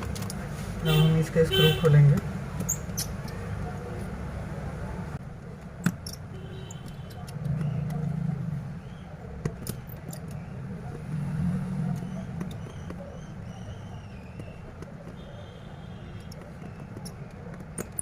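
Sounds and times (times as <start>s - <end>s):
road traffic hum: 0.0s - 18.0s.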